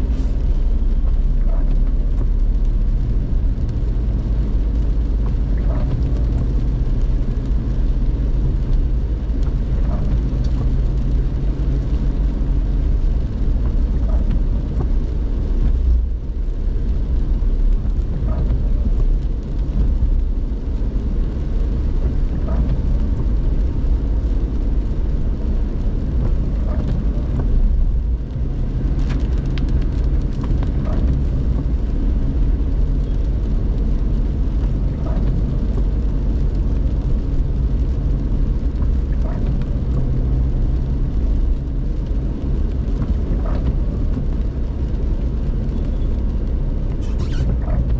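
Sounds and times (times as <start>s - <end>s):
engine and tyres rumbling: 0.0s - 47.9s.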